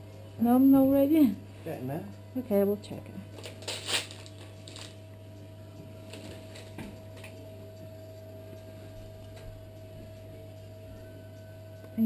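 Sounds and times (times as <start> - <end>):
electrical hum: 0.0 - 12.0
thin steady whine: 0.0 - 12.0.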